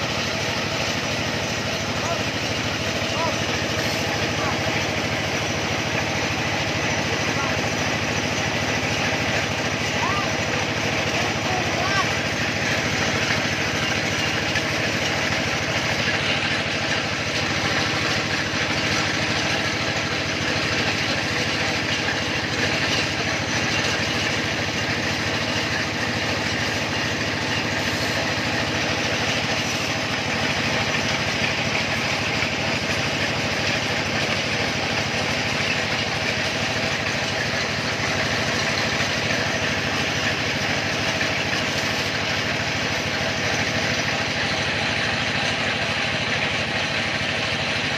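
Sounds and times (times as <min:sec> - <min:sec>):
small engine running steadily: 0:00.0 - 0:47.9.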